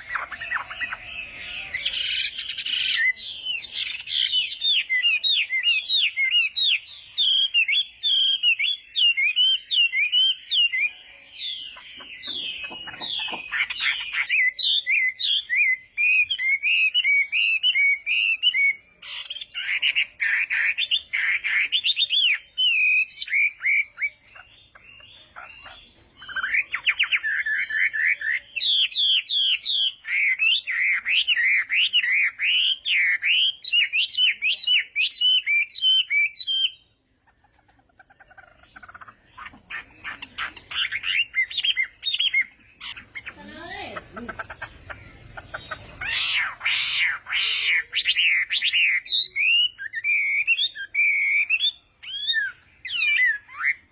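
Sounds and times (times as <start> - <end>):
bird whistled song: 0.0 - 37.0, 38.3 - 43.4, 44.6 - 53.9.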